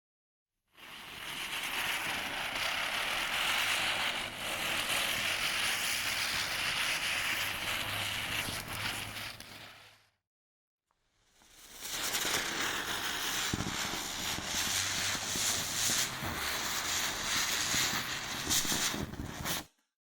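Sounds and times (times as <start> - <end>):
firework hissing with crackles: 0.7 - 10.2, 11.3 - 19.8.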